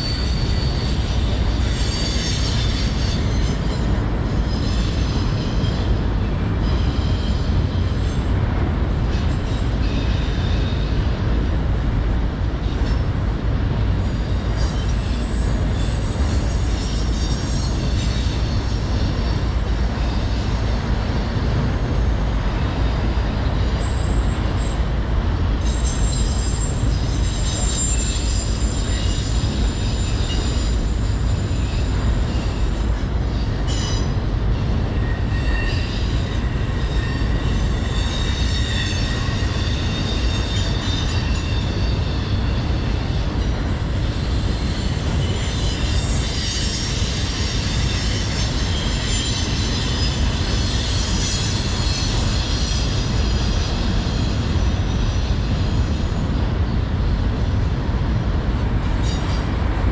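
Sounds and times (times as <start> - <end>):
high wheel squeal: 0.0 - 11.5, 14.0 - 20.9, 25.6 - 56.7, 58.9 - 59.8
freight train rumbling past: 0.0 - 59.9.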